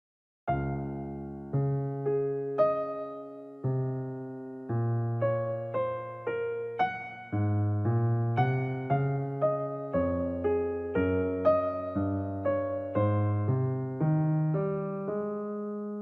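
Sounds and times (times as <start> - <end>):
electric piano melody: 0.5 - 16.0.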